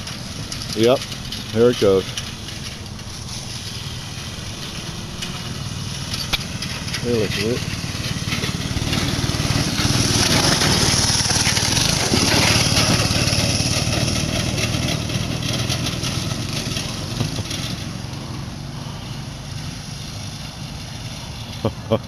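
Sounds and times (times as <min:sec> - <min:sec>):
small engine running under load: 0:00.0 - 0:22.0.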